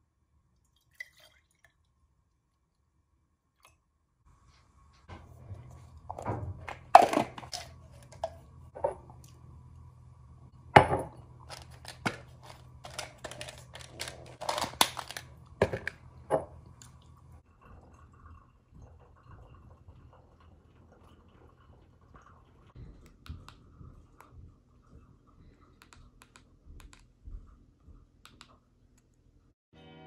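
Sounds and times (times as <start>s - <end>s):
low steady hum: 4.3s - 29.5s.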